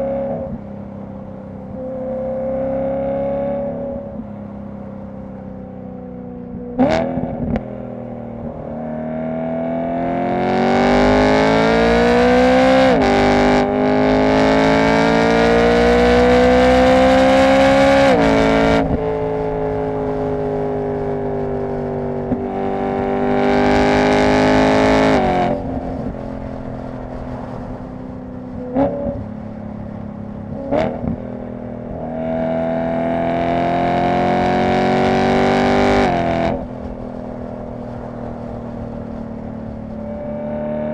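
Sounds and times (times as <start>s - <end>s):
car engine accelerating through gears: 1.7s - 4.3s, 6.6s - 40.9s.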